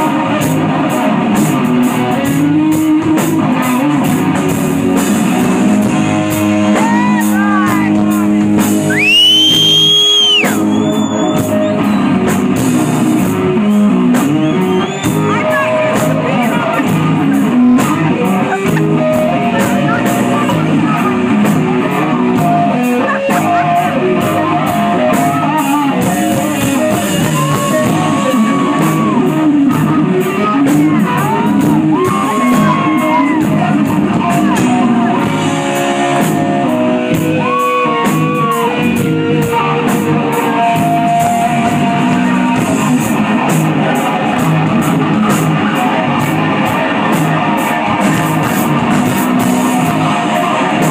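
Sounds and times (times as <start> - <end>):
drums: 0.0 - 50.9
electric guitar: 0.0 - 50.9.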